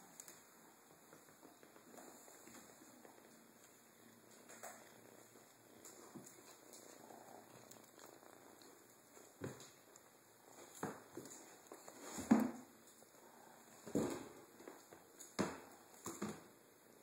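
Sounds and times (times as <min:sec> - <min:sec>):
faint kitten purring: 0:00.0 - 0:17.0.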